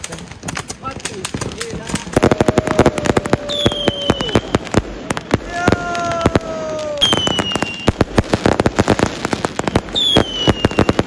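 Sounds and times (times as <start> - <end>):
fireworks bangs and crackles: 0.0 - 11.0
whistling fireworks: 0.0 - 11.0.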